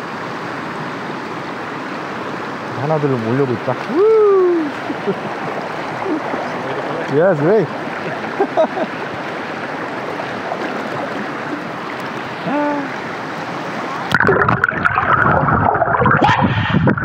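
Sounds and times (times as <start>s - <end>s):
stream water rushing over rock: 0.0s - 17.0s
water splashing and gurgling: 0.0s - 17.0s.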